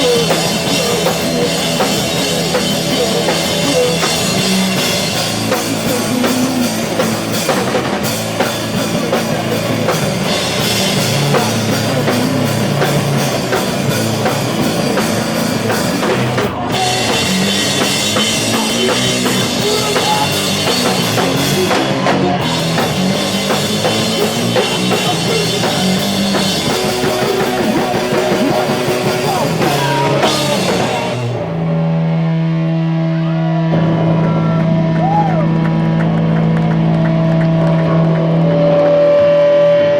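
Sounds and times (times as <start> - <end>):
drum kit: 0.0 - 31.7, 33.6 - 39.9
distorted electric guitars: 0.0 - 39.9
live rock band playing: 0.0 - 39.9.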